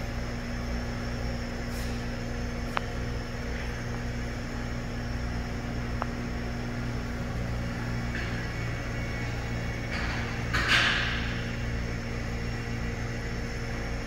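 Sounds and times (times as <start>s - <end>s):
machine electrical hum: 0.0s - 14.0s.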